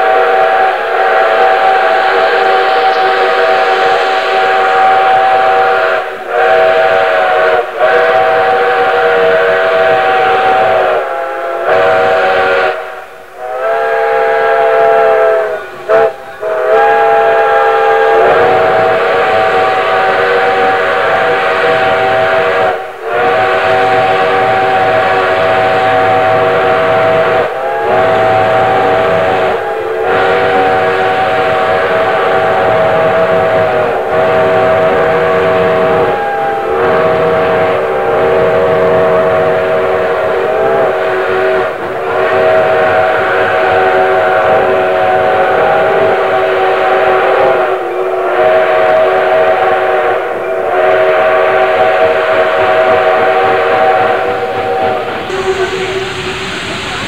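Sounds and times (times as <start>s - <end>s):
chime steam whistle blasts: 0.0s - 57.0s.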